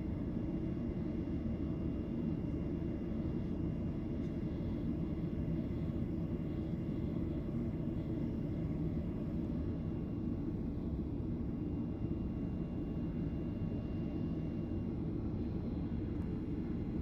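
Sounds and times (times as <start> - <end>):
airliner engines rumbling in cabin: 0.0 - 17.0.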